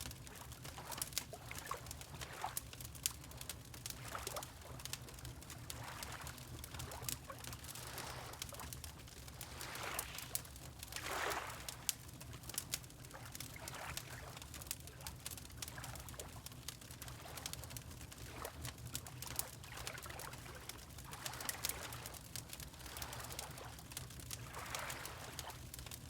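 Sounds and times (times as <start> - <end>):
wood fire crackling: 0.0 - 19.7, 20.3 - 26.0
water lapping: 0.1 - 14.9, 18.1 - 25.9.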